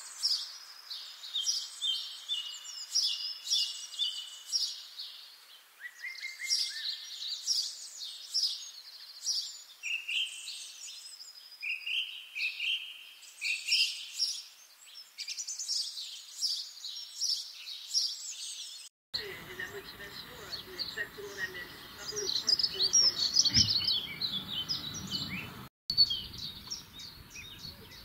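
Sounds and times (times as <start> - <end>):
songbirds chirping and trilling: 0.0 - 28.0.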